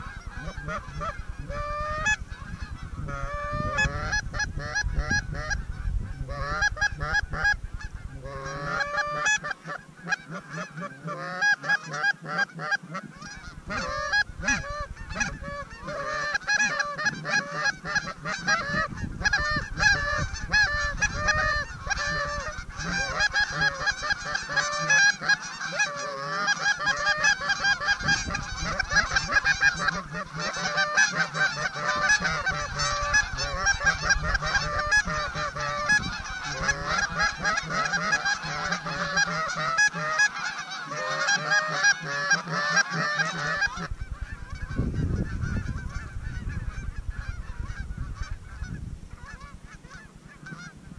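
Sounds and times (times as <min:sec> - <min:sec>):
geese honking and clucking: 0:00.0 - 0:50.9.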